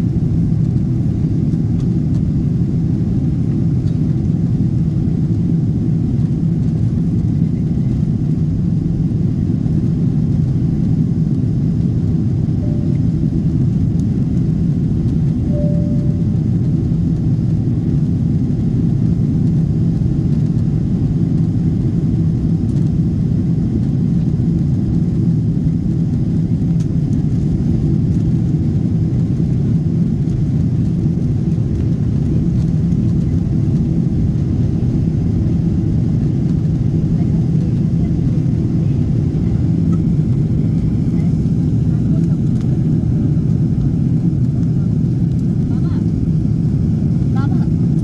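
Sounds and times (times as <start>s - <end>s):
jet engine cabin rumble: 0.0s - 48.0s.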